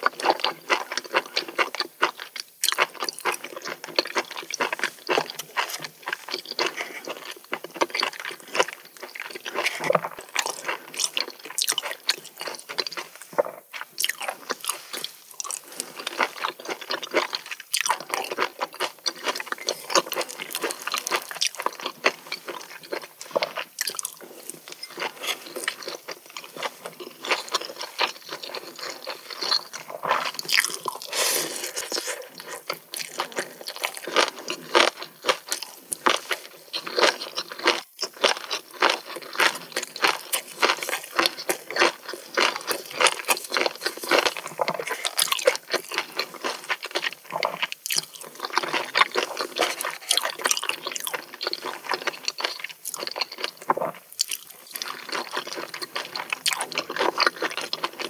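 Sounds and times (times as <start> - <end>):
wet chewing and crunching: 0.0 - 58.0.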